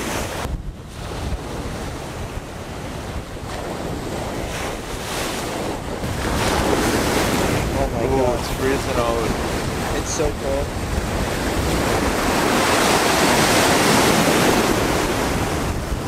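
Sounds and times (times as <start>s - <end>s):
surf washing up a beach: 0.0s - 16.0s
wind buffeting the microphone: 0.0s - 16.0s.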